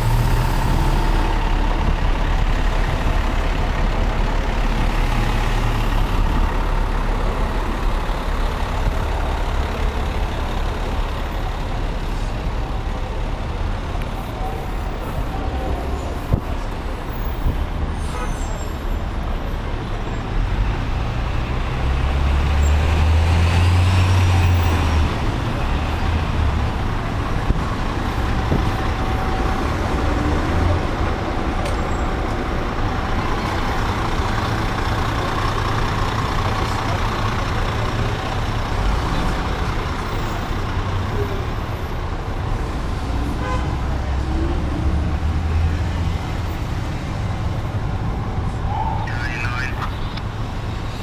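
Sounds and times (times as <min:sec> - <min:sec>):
fire truck diesel engine rumbling: 0:00.0 - 0:51.0
traffic noise: 0:00.0 - 0:51.0.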